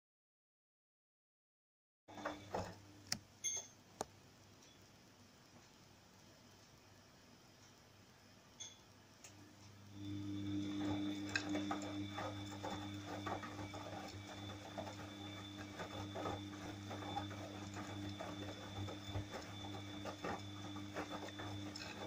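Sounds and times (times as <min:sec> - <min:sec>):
washing machine motor hum: 0:02.1 - 0:03.6, 0:04.2 - 0:22.0.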